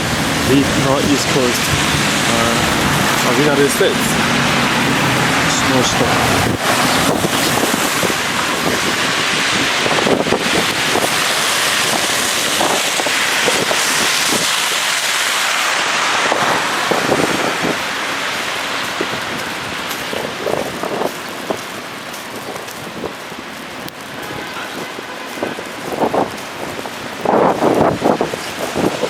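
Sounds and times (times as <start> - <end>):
wind on microphone: 0.0 - 15.1, 16.1 - 29.0
traffic on wet street: 0.0 - 29.0.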